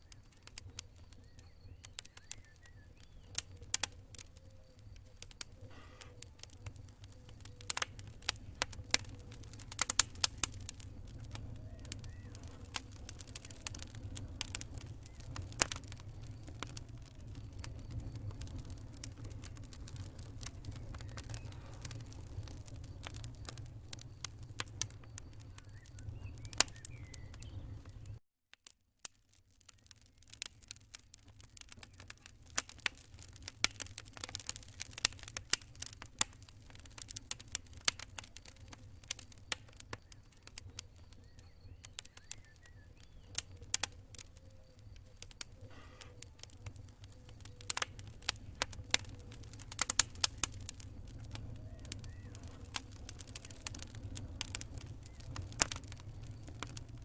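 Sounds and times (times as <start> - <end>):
low rumble of flames: 0.0 - 28.2, 29.1 - 57.0
wood fire crackling: 0.0 - 57.0.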